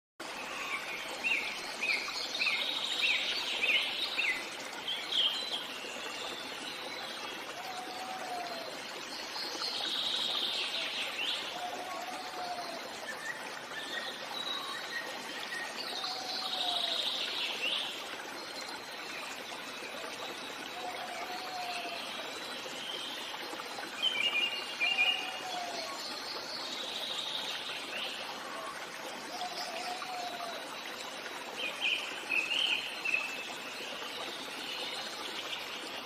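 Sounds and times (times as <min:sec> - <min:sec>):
running stream: 0:00.2 - 0:36.0.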